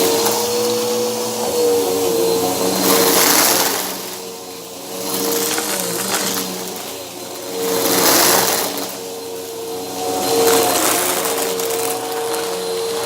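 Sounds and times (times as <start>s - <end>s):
vacuum cleaner motor hum: 0.0s - 13.0s.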